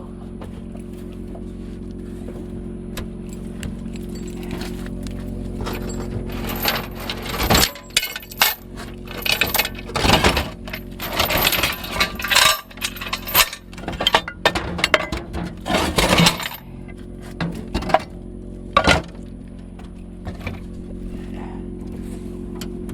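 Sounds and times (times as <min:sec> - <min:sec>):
metal gear clanking: 0:03.0 - 0:18.2, 0:18.8 - 0:22.7.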